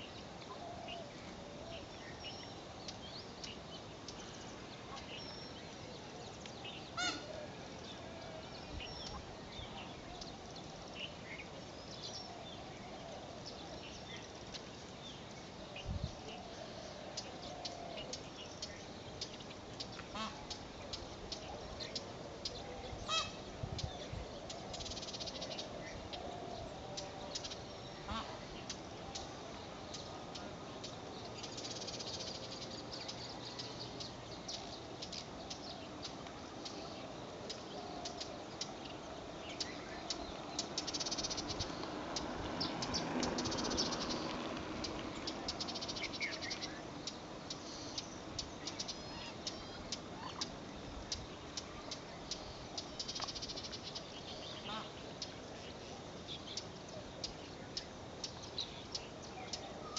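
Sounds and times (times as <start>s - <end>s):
bird calls: 0.0s - 59.9s.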